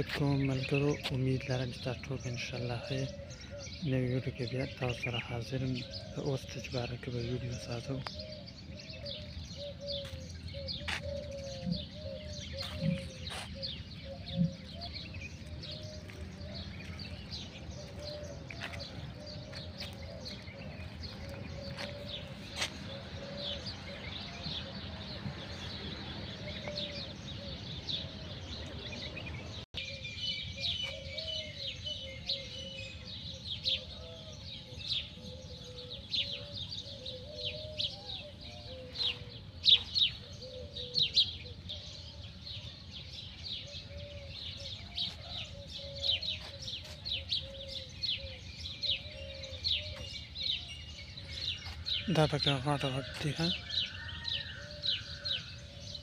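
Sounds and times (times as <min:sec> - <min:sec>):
small songbirds chirping: 0:00.0 - 0:56.0.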